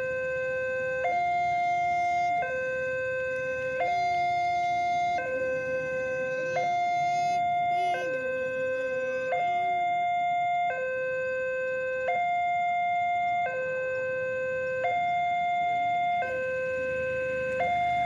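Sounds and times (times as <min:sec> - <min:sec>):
level crossing two-tone alarm: 0:00.0 - 0:18.0.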